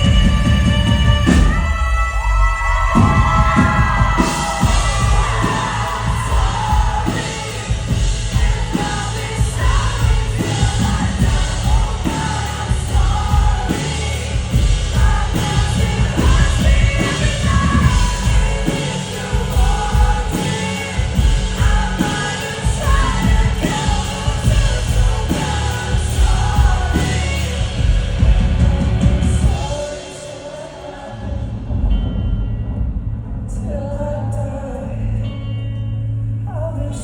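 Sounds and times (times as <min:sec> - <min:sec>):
live pop-rock band: 0:00.0 - 0:37.0
man singing lead vocal: 0:00.0 - 0:37.0.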